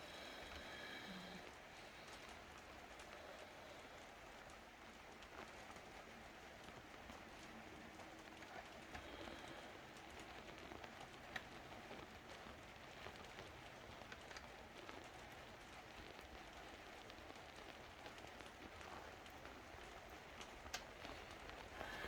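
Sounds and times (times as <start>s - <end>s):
faint room tone hiss: 0.0s - 22.0s.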